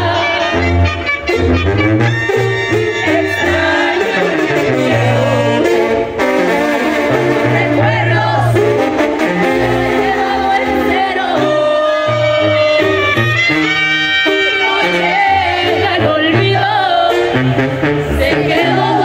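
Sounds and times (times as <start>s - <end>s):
brass horns holding notes: 0.0s - 19.0s
tuba bass line: 0.0s - 19.0s.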